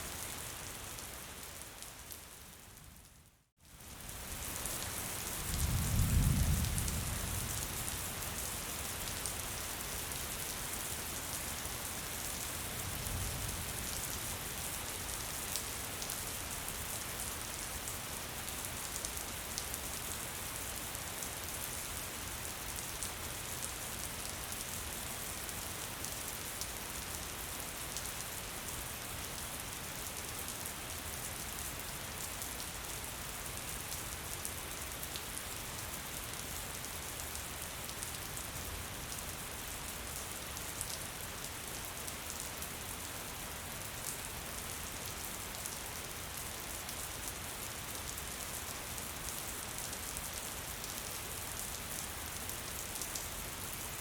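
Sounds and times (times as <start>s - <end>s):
gentle rain: 0.0s - 54.0s.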